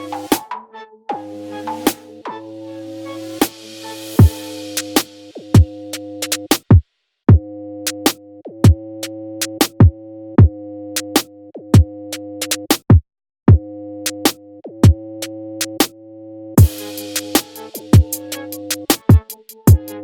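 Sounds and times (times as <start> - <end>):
electronic music with drum beat: 0.0 - 12.9, 13.5 - 15.9, 16.6 - 20.0.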